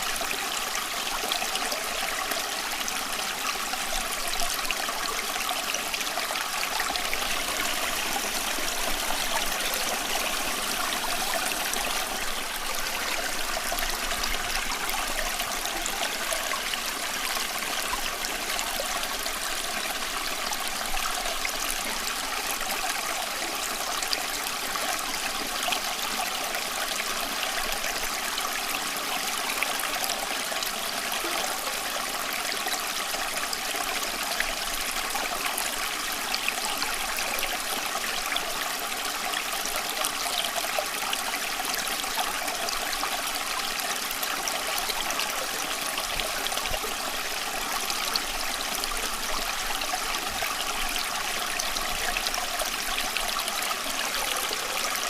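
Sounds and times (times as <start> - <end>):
stream water flowing and trickling: 0.0 - 55.0.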